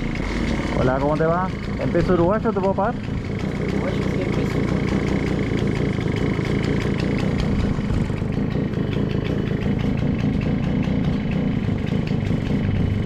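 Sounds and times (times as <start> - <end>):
small motorcycle engine idling: 0.0 - 13.0.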